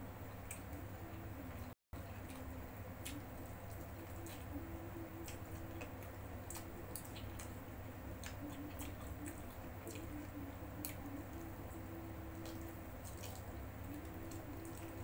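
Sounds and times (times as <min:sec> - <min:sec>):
faint low hum: 0:00.0 - 0:15.0
person chewing food wetly: 0:00.4 - 0:15.0.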